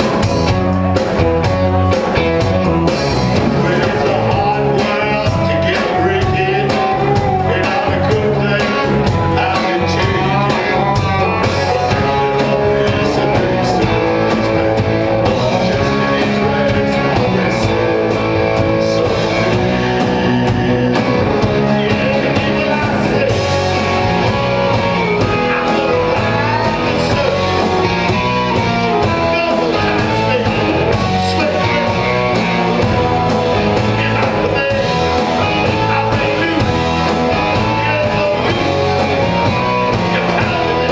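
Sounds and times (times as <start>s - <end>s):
bass: 0.0s - 40.9s
drums: 0.0s - 40.9s
electric guitar: 0.0s - 40.9s
person singing: 2.9s - 40.9s.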